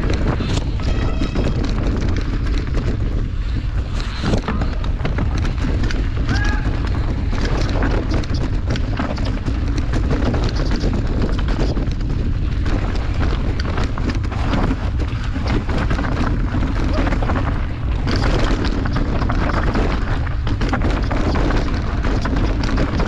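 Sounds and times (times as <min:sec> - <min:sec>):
bike rattling and knocking: 0:00.0 - 0:23.0
tyre noise on dirt: 0:00.0 - 0:23.0
wind buffeting microphone: 0:00.0 - 0:23.0.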